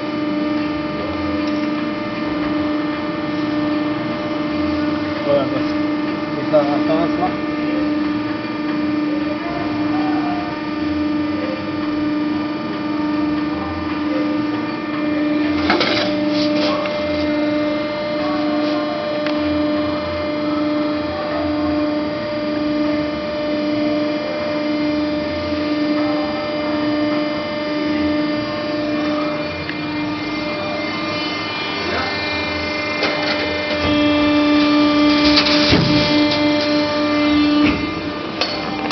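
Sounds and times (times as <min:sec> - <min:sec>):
hydraulic power unit humming: 0:00.0 - 0:38.9.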